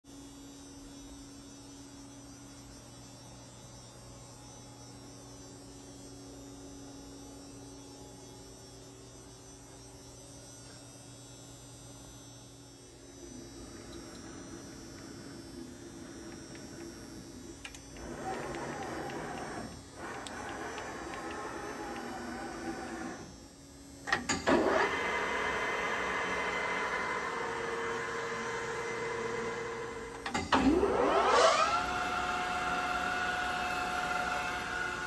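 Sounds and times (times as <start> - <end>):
electrical mains hum: 0.1 - 35.0.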